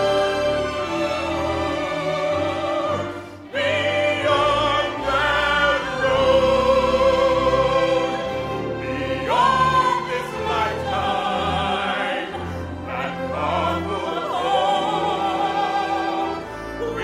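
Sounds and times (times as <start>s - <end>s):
orchestra playing: 0.0s - 17.0s.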